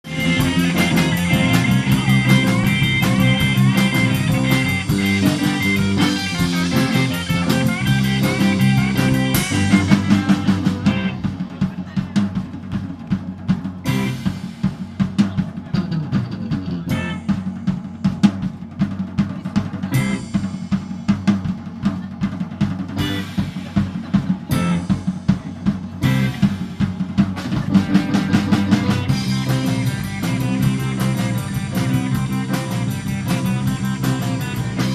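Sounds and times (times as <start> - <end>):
drum beat with cymbal crashes: 0.0 - 34.9
rock music: 0.0 - 34.9.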